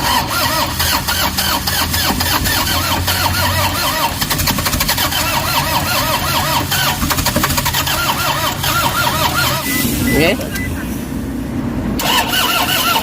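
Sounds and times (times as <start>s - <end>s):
diesel engine cranking: 0.0s - 13.0s.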